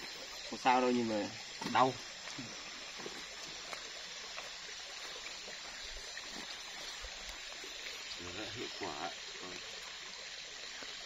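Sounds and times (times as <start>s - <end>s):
stream flowing: 0.0s - 11.0s.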